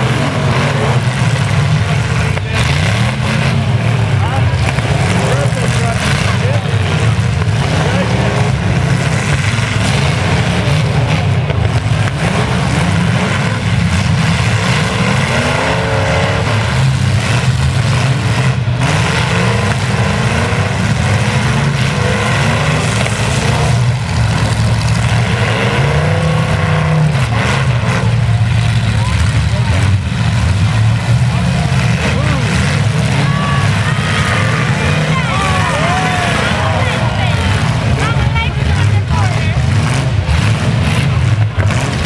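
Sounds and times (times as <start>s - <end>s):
truck engines revving loud: 0.0s - 42.0s.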